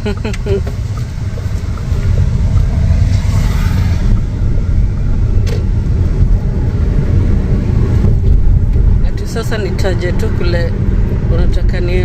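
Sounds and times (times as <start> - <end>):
road rumble inside a car: 0.0 - 12.0.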